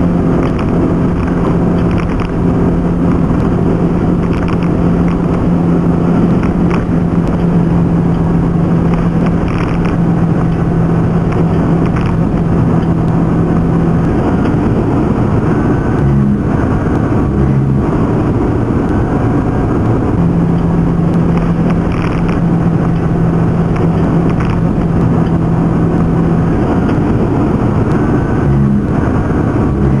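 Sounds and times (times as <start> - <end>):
car road and engine noise: 0.0 - 30.0
low steady hum: 0.0 - 30.0.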